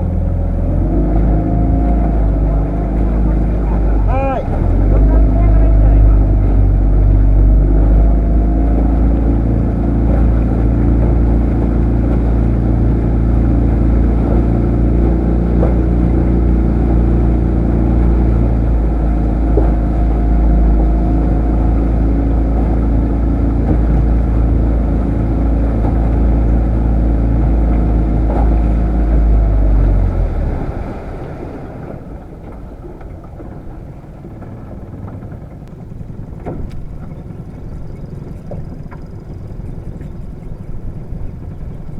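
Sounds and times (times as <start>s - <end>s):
boat engine running: 0.0s - 41.9s
water noise: 0.0s - 41.9s.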